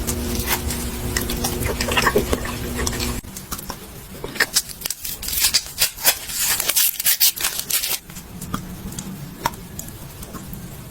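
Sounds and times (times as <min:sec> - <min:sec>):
crunching food being chewed: 0:00.0 - 0:10.6.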